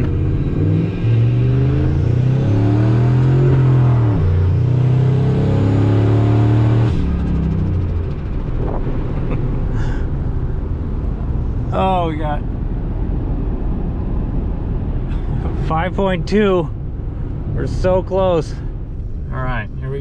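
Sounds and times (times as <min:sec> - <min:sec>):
truck engine accelerating: 0:00.0 - 0:19.2.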